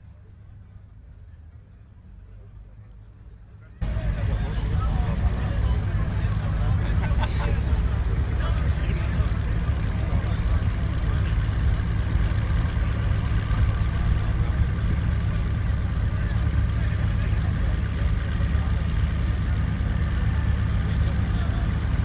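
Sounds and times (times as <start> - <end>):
race cars idling: 0.0 - 22.0.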